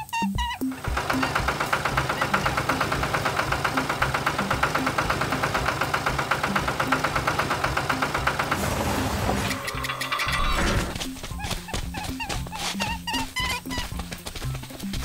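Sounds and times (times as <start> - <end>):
tractor engine chugging: 0.4 - 15.0.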